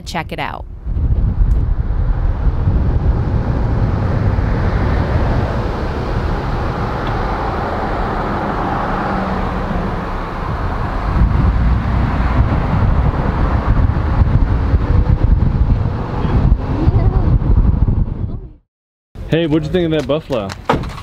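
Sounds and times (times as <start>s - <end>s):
wind noise: 0.0s - 18.6s
car road rumble: 0.1s - 18.6s.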